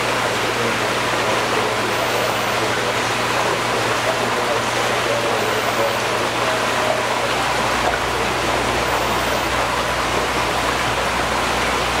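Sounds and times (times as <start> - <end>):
low steady hum: 0.0 - 12.0
running water rushing: 0.0 - 12.0.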